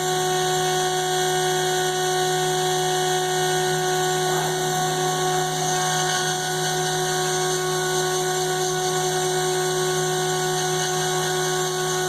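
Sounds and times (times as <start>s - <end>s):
router spindle drone: 0.0s - 12.0s.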